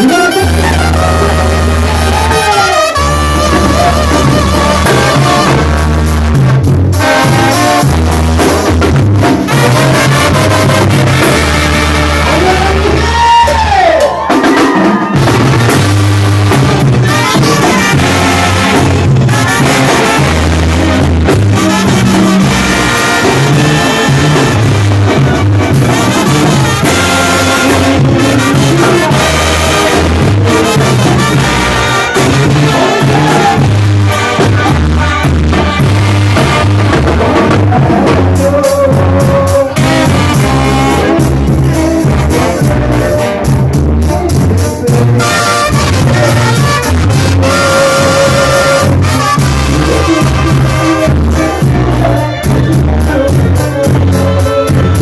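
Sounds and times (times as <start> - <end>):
band music with trumpets: 0.0 - 55.0
bass notes: 0.0 - 55.0
drums: 0.0 - 55.0.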